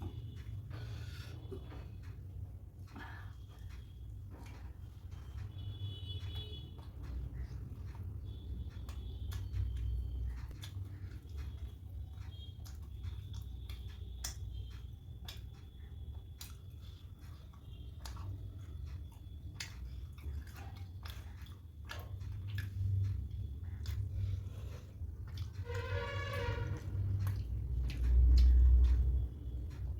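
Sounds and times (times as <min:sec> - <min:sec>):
wet chewing mouth sounds: 0:00.0 - 0:25.8, 0:26.4 - 0:29.9.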